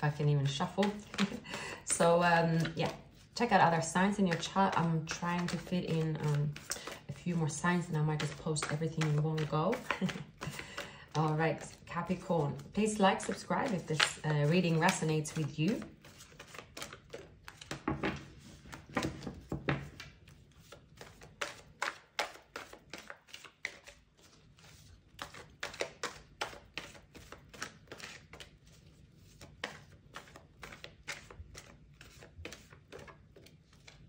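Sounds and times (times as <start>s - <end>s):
cards being shuffled: 0.1s - 34.0s.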